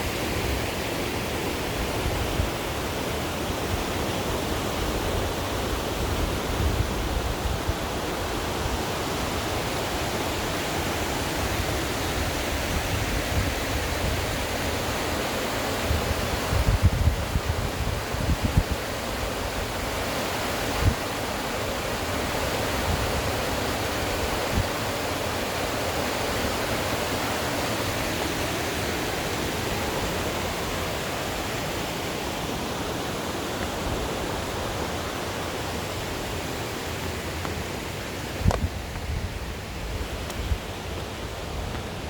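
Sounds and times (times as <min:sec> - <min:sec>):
rushing stream and waterfall: 0:00.0 - 0:42.0.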